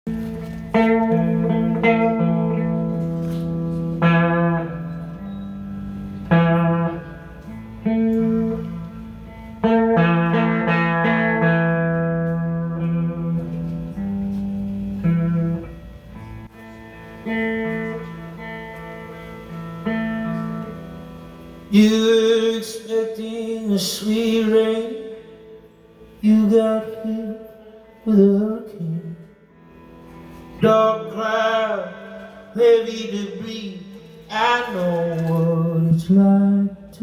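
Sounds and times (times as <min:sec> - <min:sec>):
guitar chords ringing: 0:00.1 - 0:37.0.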